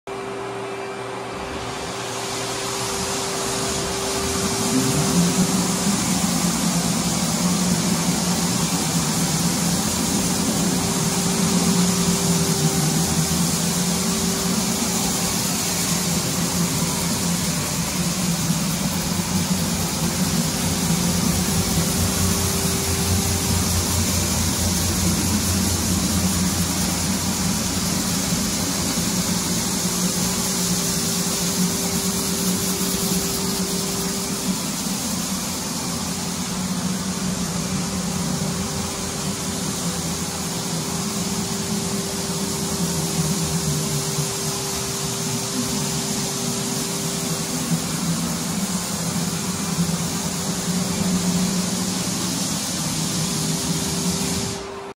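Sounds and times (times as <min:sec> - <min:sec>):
floor sander motor hum: 0:00.1 - 0:54.9
sanding discs hissing: 0:02.1 - 0:54.6.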